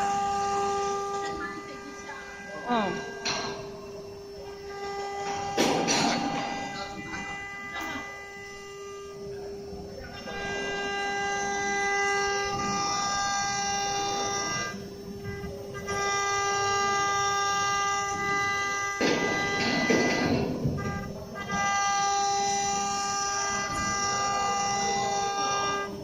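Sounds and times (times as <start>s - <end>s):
machine whine: 0.0s - 26.0s
noisy machine rush: 0.0s - 26.0s.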